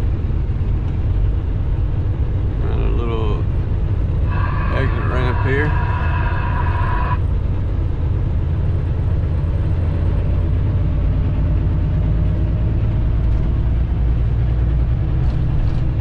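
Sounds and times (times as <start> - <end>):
diesel engine rumble: 0.0 - 16.0
road noise: 0.0 - 16.0.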